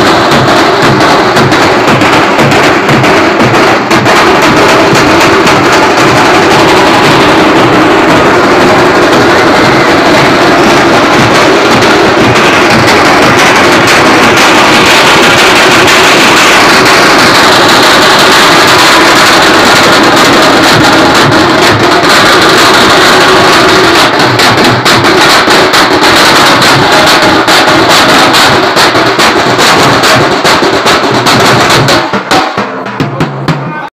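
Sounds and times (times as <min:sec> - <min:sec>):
loud fast drum band: 0:00.0 - 0:33.9.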